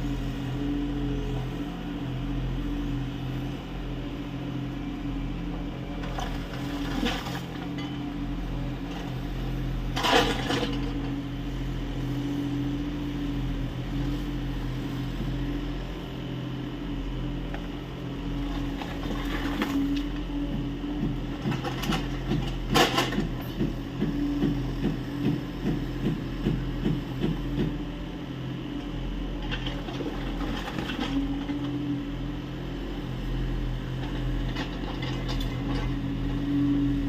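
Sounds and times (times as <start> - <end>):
excavator diesel engine: 0.0 - 37.0
excavator digging earth: 0.0 - 37.0.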